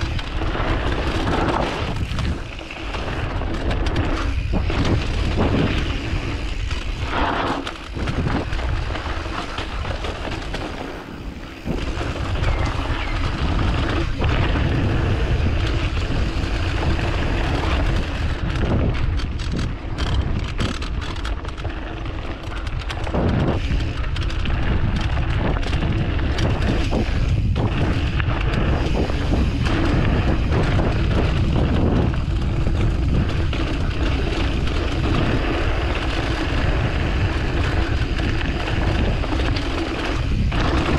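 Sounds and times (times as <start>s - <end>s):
bike knocking and rattling: 0.0s - 40.9s
tyres rumbling on dirt: 0.0s - 40.9s
wind buffeting microphone: 0.0s - 40.9s.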